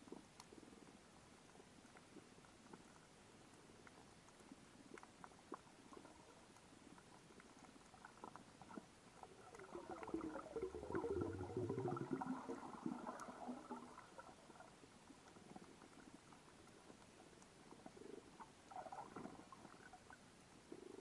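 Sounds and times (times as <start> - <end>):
faint ticks: 0.0 - 21.0
rapid crackling pulses underwater: 0.0 - 21.0.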